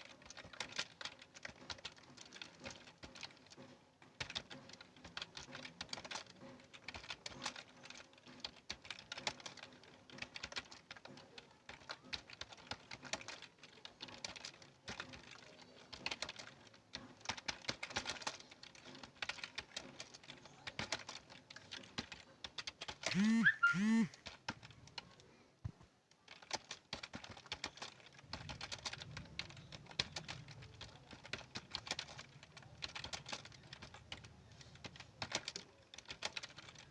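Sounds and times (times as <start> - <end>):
keyboard typing: 0.0 - 25.3, 26.2 - 36.9.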